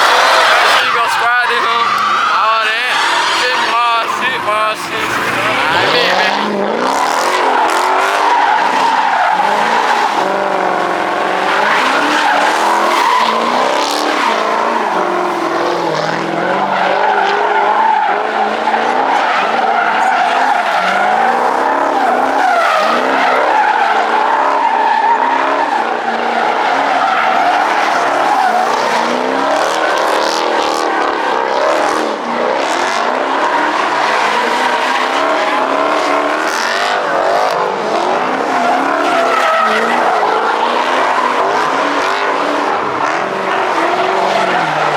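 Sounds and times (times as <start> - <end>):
car engine revving: 0.0 - 44.9
car tyres squealing: 0.0 - 44.9.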